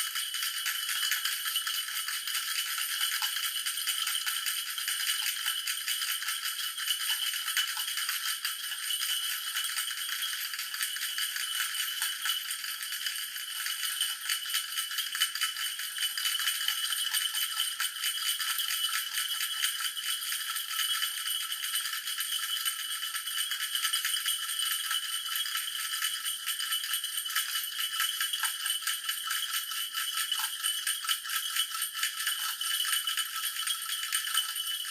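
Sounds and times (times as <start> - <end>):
toy bell jingling: 0.0 - 34.9.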